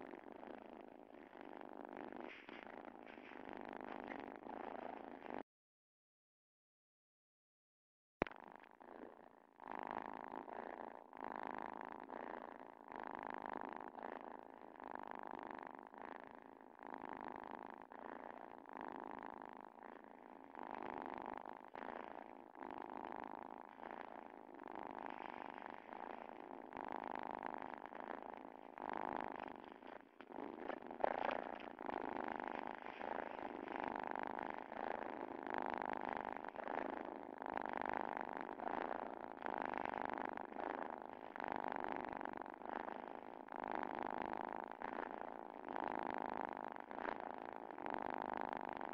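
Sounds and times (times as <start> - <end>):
cat purring: 0.0 - 5.4, 8.2 - 48.9.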